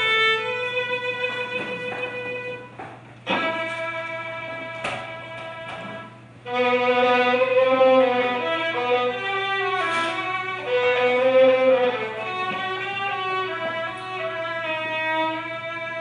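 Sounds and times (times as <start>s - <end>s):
violin playing slow melody: 0.0s - 16.0s.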